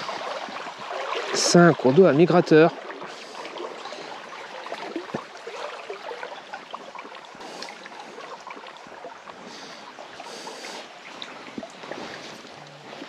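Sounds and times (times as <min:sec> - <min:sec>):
stream babbling over stones: 0:00.0 - 0:13.0.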